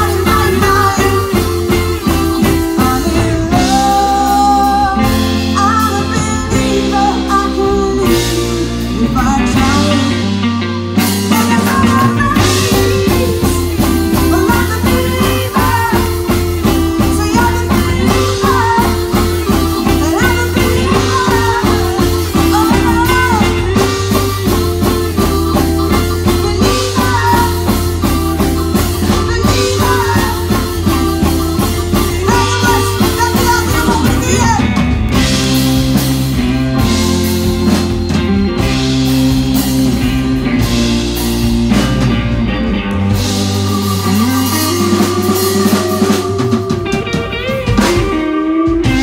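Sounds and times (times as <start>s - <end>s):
live rock band playing: 0.0s - 49.0s.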